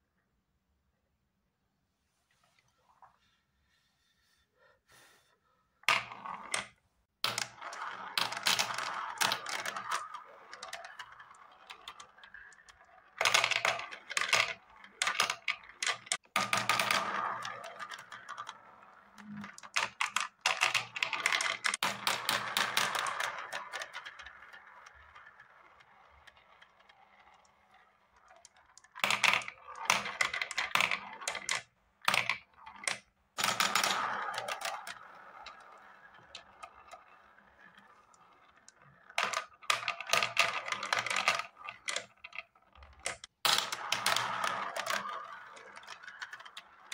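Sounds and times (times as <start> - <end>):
balls clattering in marble run: 5.9 - 46.9.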